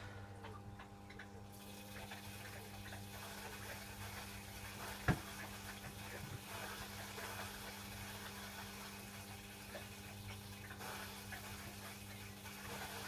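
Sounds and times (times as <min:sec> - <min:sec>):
washing machine hum: 0:00.0 - 0:13.0
water running into washing machine: 0:00.0 - 0:13.0.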